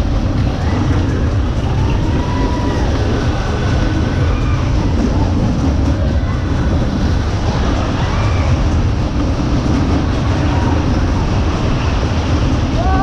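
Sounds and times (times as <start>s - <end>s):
fairground ride rumbling: 0.0s - 13.0s.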